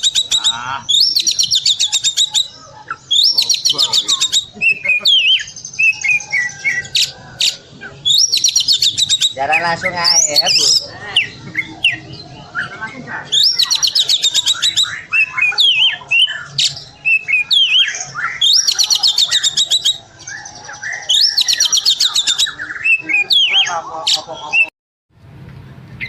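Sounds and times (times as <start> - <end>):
magpie-robin singing: 0.0 - 24.7.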